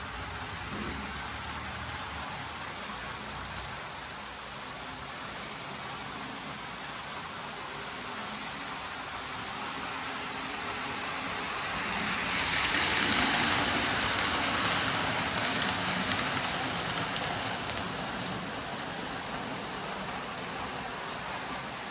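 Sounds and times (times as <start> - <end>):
model train rolling past: 0.0 - 21.9.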